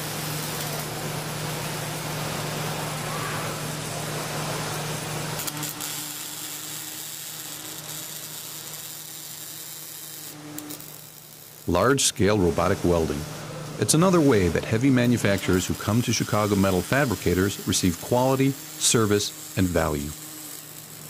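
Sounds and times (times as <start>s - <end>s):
low electrical hum: 0.0s - 21.0s
welding arc hissing: 0.0s - 21.0s.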